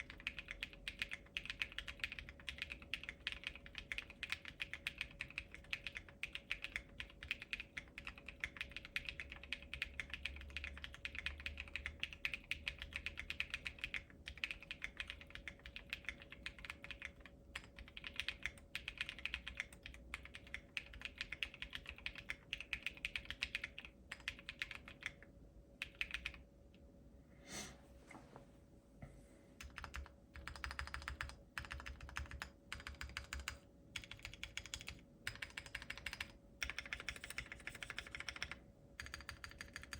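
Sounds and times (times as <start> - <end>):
typing on mechanical keyboard: 0.0 - 26.4, 29.6 - 39.9.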